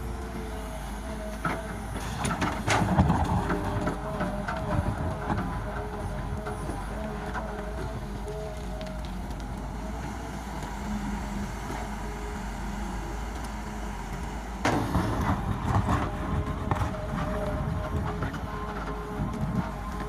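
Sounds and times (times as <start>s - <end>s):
excavator engine drone: 0.0s - 20.0s.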